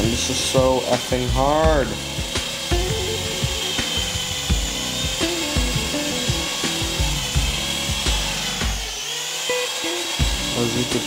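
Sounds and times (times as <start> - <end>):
toy helicopter motor whine: 0.0 - 11.0.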